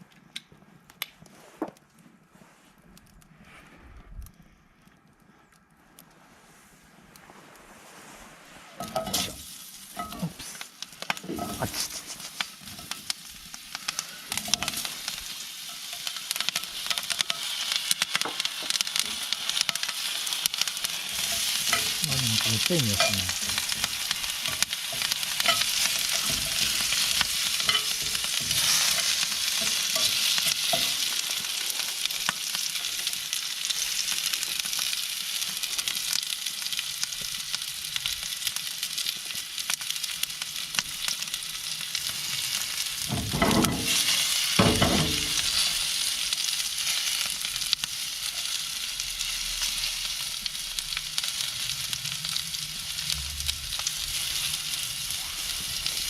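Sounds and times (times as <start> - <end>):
steak sizzling in oil: 8.8 - 56.0.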